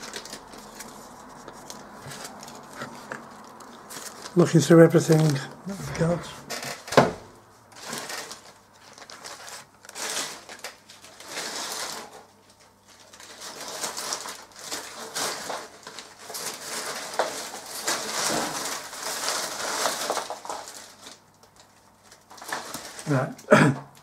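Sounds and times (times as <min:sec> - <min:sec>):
rustling of small parts: 0:00.0 - 0:07.0, 0:07.7 - 0:23.5.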